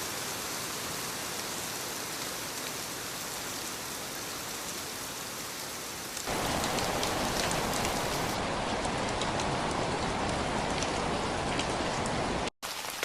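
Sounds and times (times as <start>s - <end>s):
steady rain falling: 0.0s - 13.0s
raindrops striking close by: 0.1s - 13.0s.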